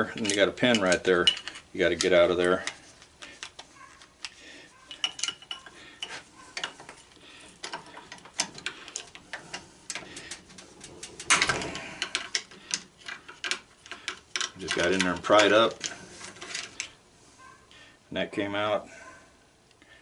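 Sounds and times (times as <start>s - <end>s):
metal tool clicking and scraping: 0.0s - 17.0s.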